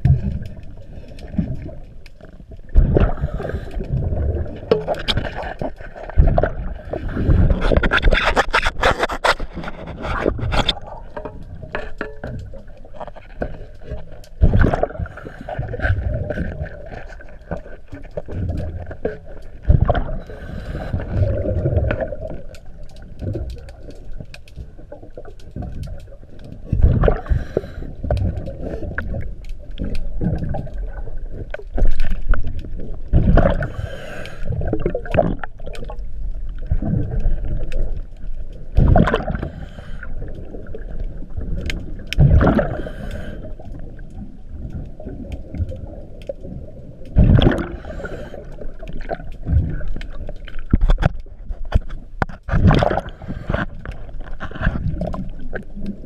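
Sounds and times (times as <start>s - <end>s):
exhaled bubbles underwater: 0.0s - 8.0s, 10.0s - 51.4s, 52.5s - 56.0s
low underwater rumble: 0.0s - 8.0s, 9.4s - 56.0s.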